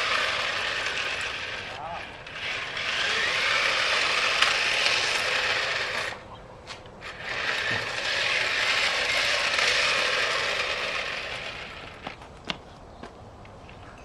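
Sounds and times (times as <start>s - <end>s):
toy car motor whirring: 0.0s - 6.3s, 7.0s - 12.1s.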